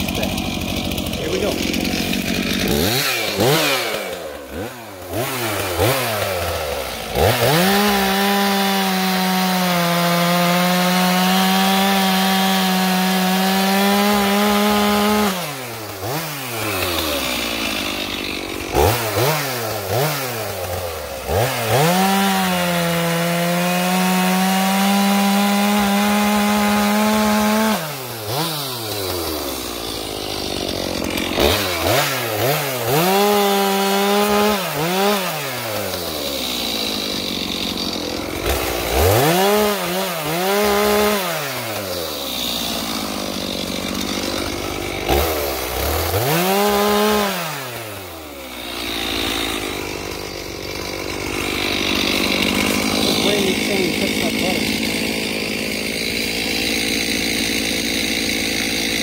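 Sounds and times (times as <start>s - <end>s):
chainsaw cutting log: 0.0s - 59.0s
chainsaw idling and revving: 0.0s - 59.0s.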